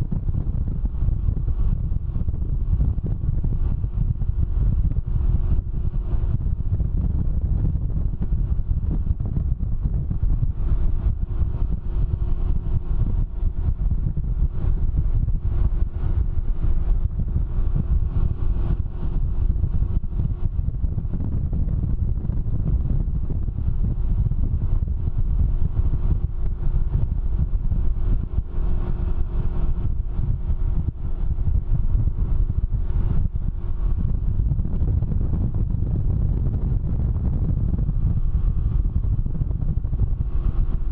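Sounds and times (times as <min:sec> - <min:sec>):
faint engine hum: 0:00.0 - 0:40.9
wind buffeting microphone: 0:00.0 - 0:40.9.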